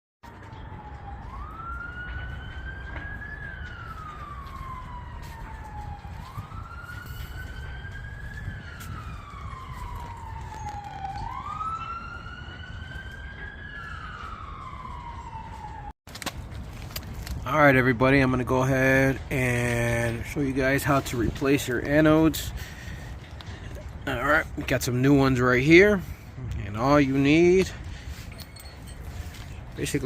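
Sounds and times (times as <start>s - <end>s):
siren wailing: 0.2s - 16.0s, 17.6s - 26.1s, 26.7s - 30.0s.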